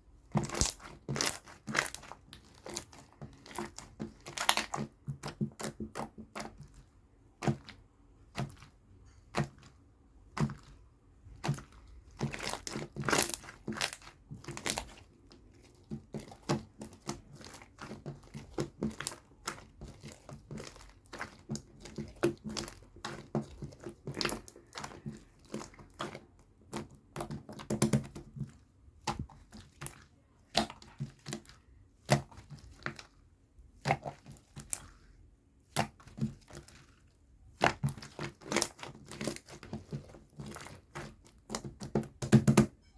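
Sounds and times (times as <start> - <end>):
slime squished by hand: 0.2 - 42.7.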